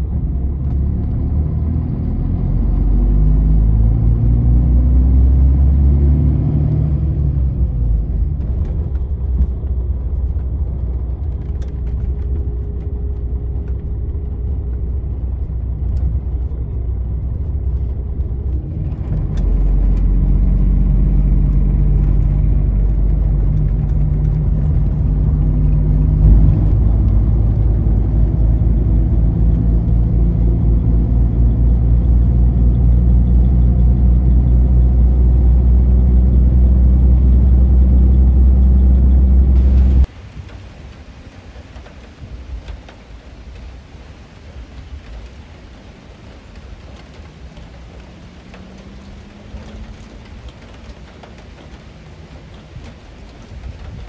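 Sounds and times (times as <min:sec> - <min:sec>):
vehicle rumbling: 0:00.0 - 0:54.0.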